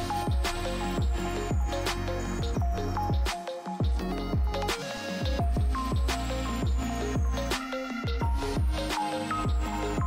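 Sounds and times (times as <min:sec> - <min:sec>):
electronic music with beat: 0:00.0 - 0:10.0.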